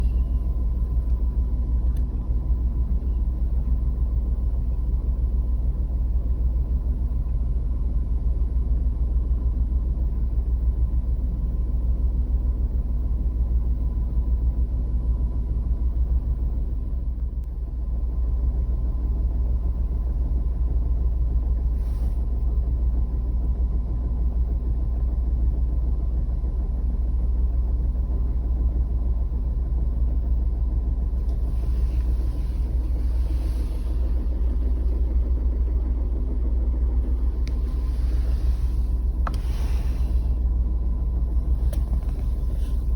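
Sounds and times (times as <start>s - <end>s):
van engine running: 0.0s - 42.9s.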